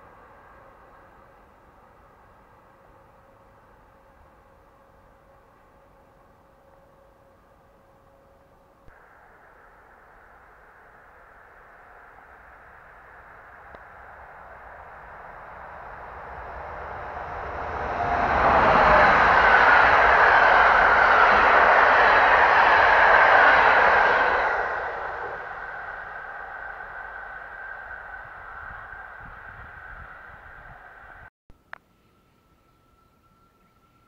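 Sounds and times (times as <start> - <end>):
passenger train passing: 0.0 - 31.3
wheels rumbling on rail: 0.0 - 31.3
high steady whine: 0.0 - 34.0.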